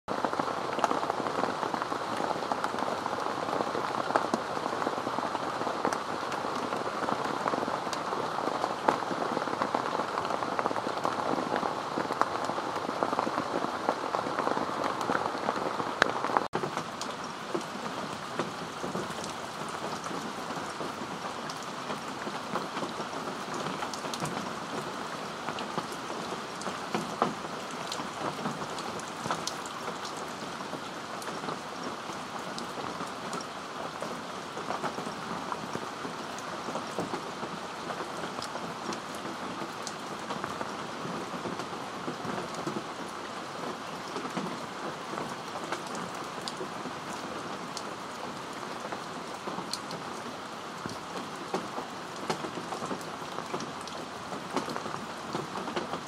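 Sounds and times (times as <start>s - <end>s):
heavy rain on foliage: 0.1s - 56.0s.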